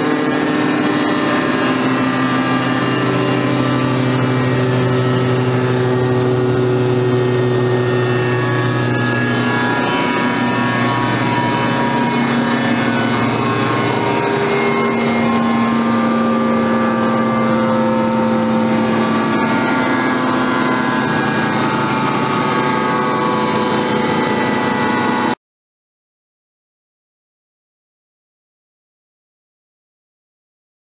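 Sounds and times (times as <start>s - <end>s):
wood chipper diesel engine running: 0.0s - 25.4s.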